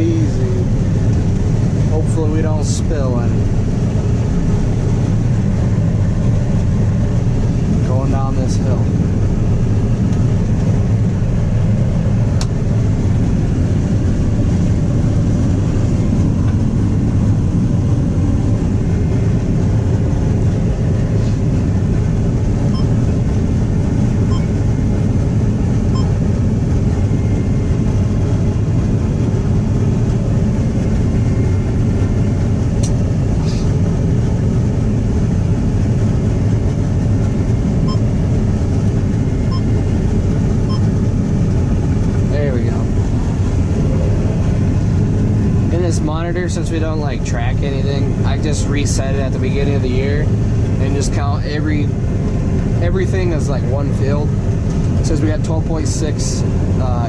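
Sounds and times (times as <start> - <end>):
combine harvester drone: 0.0 - 57.0.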